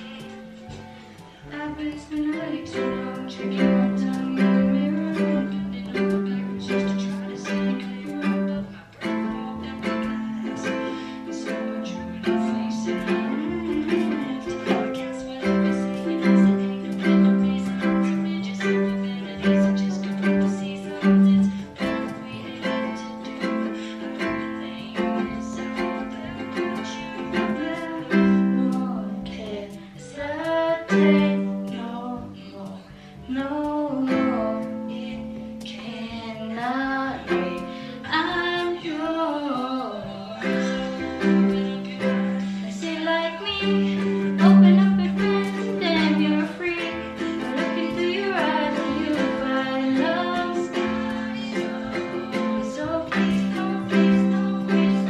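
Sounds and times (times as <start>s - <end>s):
ukulele playing: 0.0s - 55.0s
woman singing: 0.0s - 55.0s.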